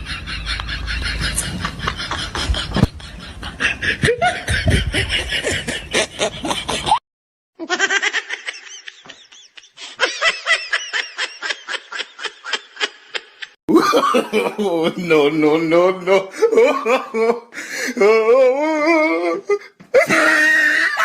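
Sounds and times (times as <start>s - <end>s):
person laughing in rapid bursts: 0.0s - 7.0s, 7.6s - 15.2s, 16.0s - 21.0s.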